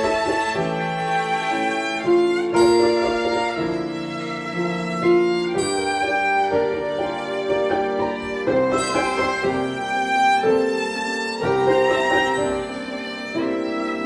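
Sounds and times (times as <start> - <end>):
piano accompaniment: 0.0 - 14.0
violin ensemble melody: 0.0 - 14.0.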